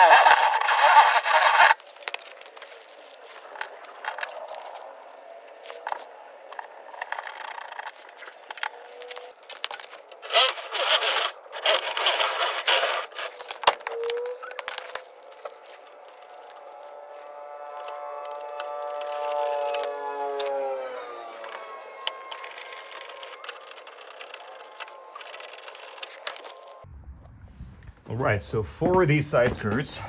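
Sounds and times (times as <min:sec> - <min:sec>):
tool scraping and rasping: 0:00.0 - 0:26.8
quiet scratching: 0:00.0 - 0:30.0.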